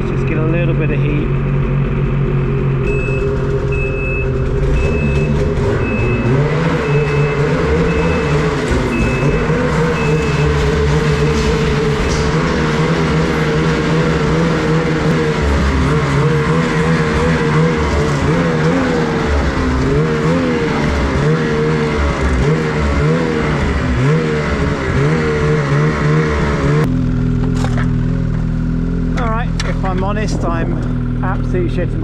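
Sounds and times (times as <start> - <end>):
snowmobile engine revving and idling: 0.0 - 32.0.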